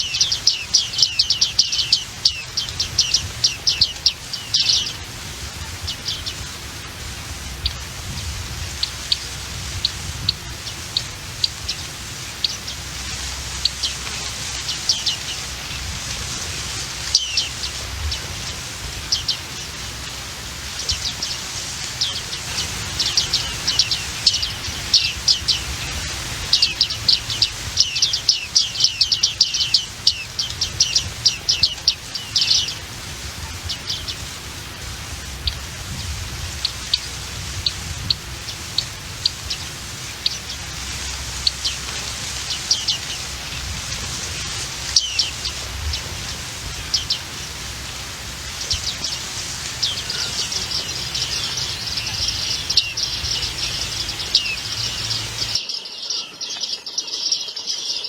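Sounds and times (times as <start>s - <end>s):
steady hiss: 0.0s - 55.7s
small songbirds chirping: 0.0s - 58.0s.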